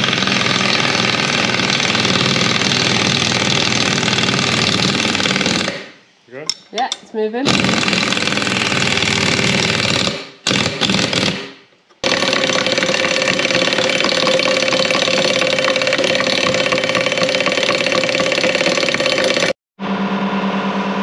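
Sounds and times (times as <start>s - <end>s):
pneumatic air hammer on metal: 0.0s - 5.9s, 7.4s - 19.5s.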